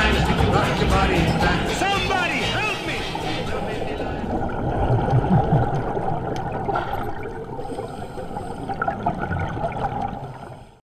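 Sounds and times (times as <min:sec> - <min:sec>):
underwater regulator bubbling: 0:00.0 - 0:10.8.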